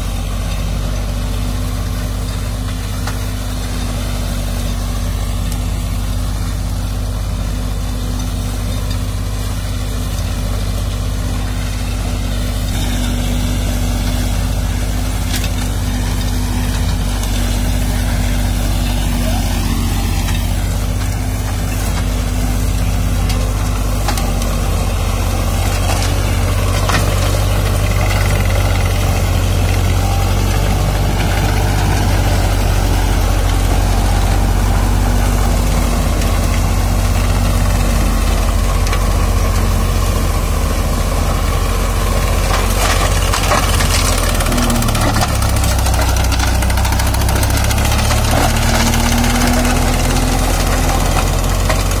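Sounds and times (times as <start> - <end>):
mulcher shredding stalks: 0.0 - 52.0
tractor diesel engine running: 0.0 - 52.0.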